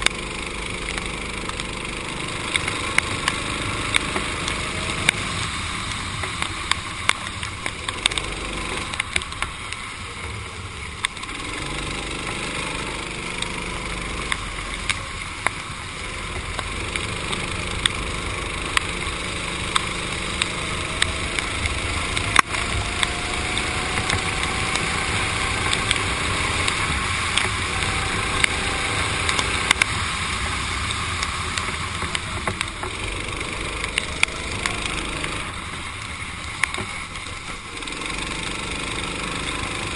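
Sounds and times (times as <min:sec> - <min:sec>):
sharp clicks: 0:00.0 - 0:09.8, 0:11.0 - 0:39.9
go-kart engine revving: 0:00.0 - 0:39.9
tyres hissing on wet track: 0:00.0 - 0:39.9.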